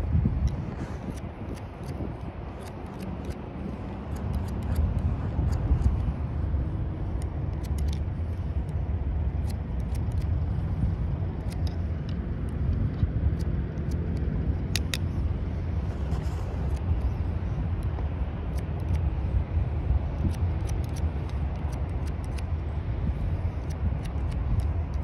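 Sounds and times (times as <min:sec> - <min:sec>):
shears snipping hair: 0:00.0 - 0:25.0.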